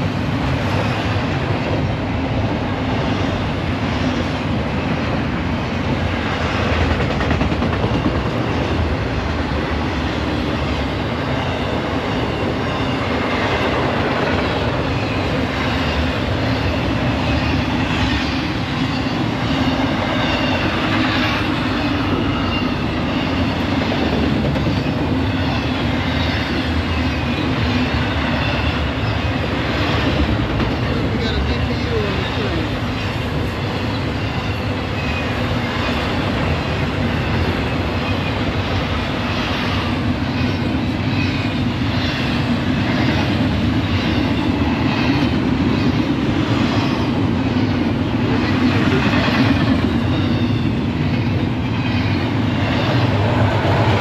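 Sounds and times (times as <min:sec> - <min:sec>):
freight train wheels rumbling and rattling: 0:00.0 - 0:54.0.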